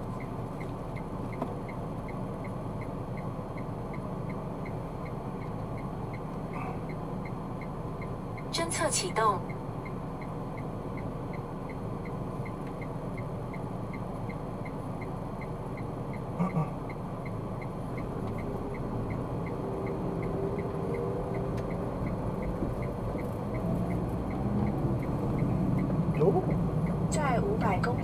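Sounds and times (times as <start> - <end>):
car engine and road noise: 0.0 - 28.0
faint regular ticking: 0.1 - 28.0.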